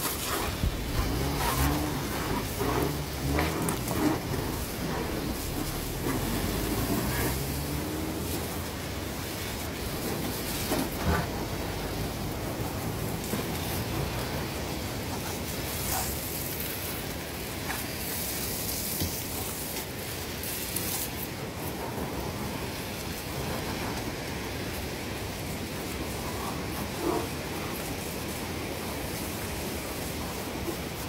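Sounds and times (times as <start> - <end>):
hose water spraying on car: 0.0 - 31.0.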